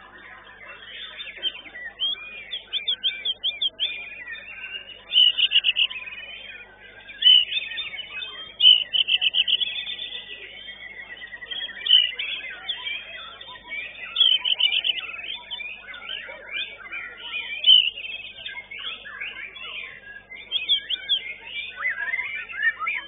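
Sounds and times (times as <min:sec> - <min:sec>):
other birdsong: 0:00.0 - 0:23.0
songbird singing fast sharp notes: 0:00.0 - 0:23.0.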